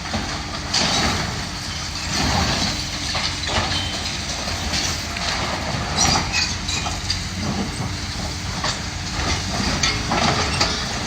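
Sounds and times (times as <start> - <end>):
demolition machine engine running: 0.0 - 11.0.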